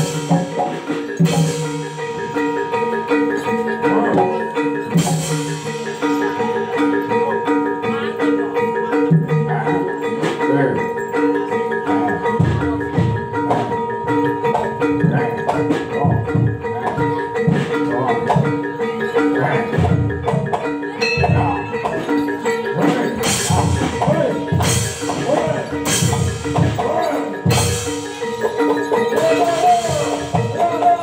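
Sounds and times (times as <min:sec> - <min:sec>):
hand drums beating: 0:00.0 - 0:31.0
held tone: 0:00.0 - 0:31.0
struck metallophone notes: 0:00.0 - 0:31.0.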